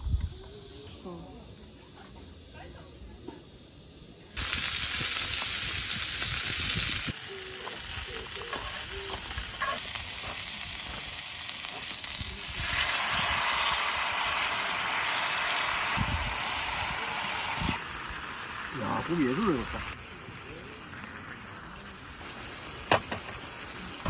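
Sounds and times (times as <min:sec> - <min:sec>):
meat sizzling: 0:04.2 - 0:24.0.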